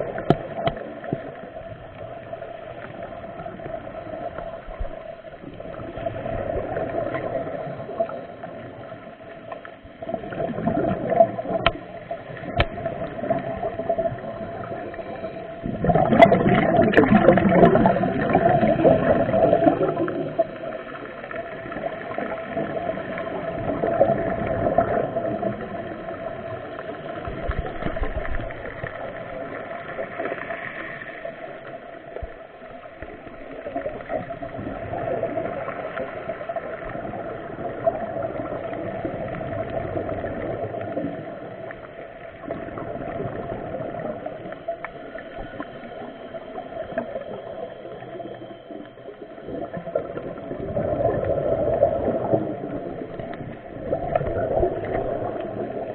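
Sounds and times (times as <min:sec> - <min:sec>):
underwater gurgling and bubbling: 0:00.0 - 0:55.9.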